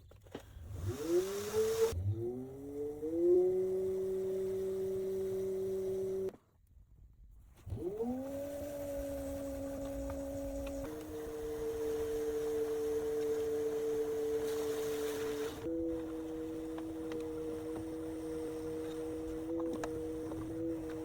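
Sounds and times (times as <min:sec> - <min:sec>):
pottery wheel motor whining: 0:00.6 - 0:06.3, 0:07.7 - 0:21.0.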